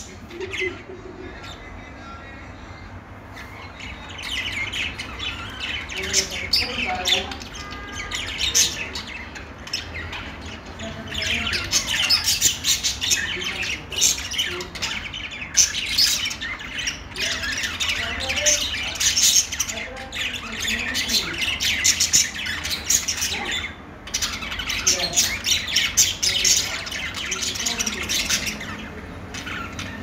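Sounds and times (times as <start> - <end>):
budgerigars chattering and warbling: 0.0 - 30.0.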